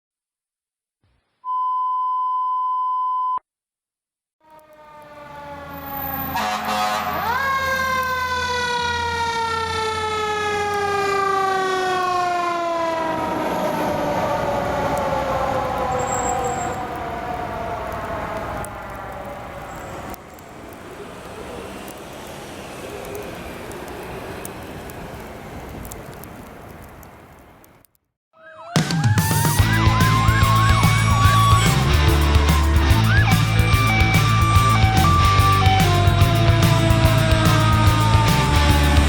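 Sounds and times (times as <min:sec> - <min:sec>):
fire truck siren wailing: 0:04.4 - 0:26.2, 0:28.4 - 0:39.0
truck engine: 0:04.8 - 0:27.5, 0:29.6 - 0:39.0.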